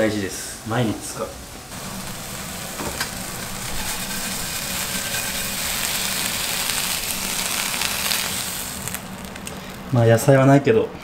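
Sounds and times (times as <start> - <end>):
chicken sizzling in frying pan: 0.0 - 10.0.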